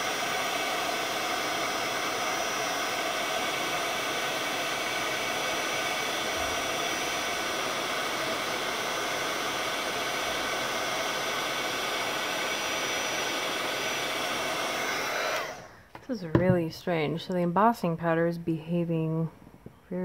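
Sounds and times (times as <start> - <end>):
heat gun fan whine: 0.0 - 17.1.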